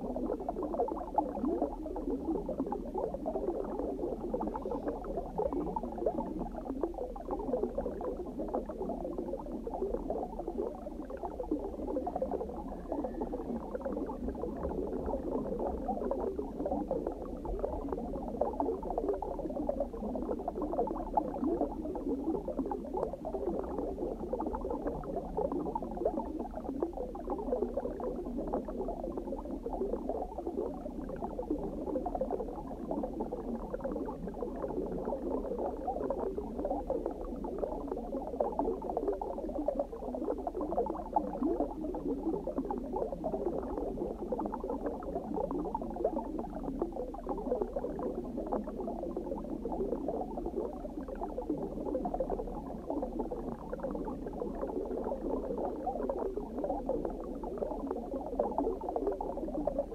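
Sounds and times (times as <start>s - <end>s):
underwater bubbling and gurgling: 0.0s - 59.9s.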